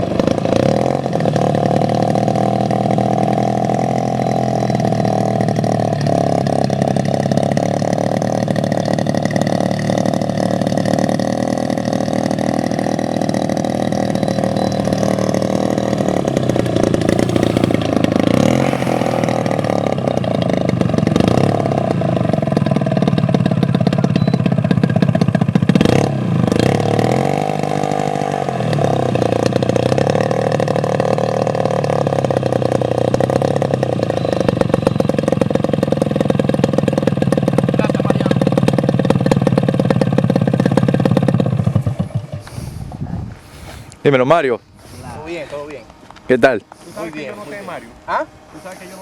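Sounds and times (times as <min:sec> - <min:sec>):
model airplane engine running: 0:00.0 - 0:42.9, 0:44.9 - 0:49.0.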